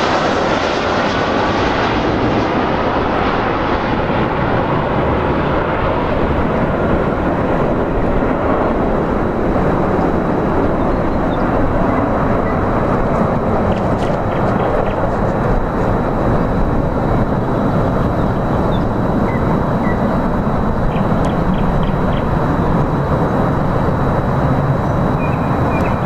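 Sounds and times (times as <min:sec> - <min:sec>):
jet airliner engine rush: 0:00.0 - 0:26.0.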